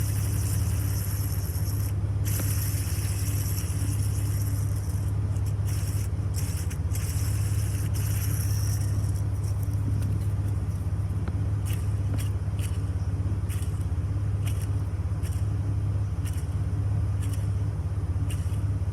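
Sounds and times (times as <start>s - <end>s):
belt tensioner noise: 0.0s - 18.9s
car engine running: 0.0s - 18.9s.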